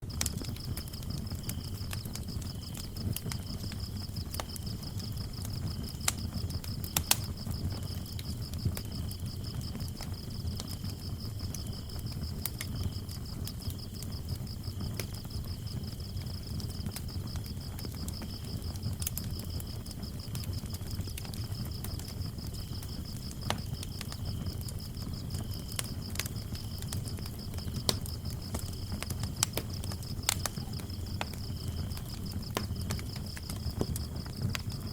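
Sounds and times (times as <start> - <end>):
low rumble of flames: 0.0 - 34.9
wood fire crackling and popping: 0.0 - 34.9
crickets chirping: 0.1 - 34.9.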